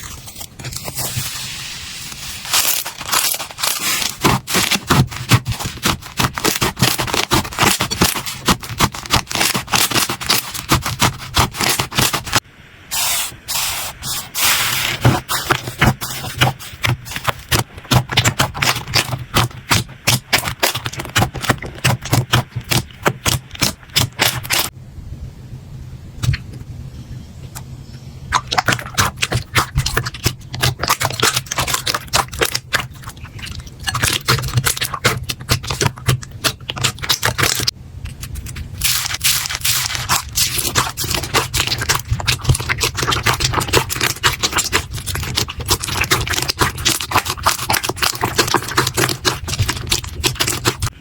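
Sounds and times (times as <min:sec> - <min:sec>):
slime crackling and popping: 0:02.2 - 0:12.4, 0:14.8 - 0:24.7, 0:28.3 - 0:51.0.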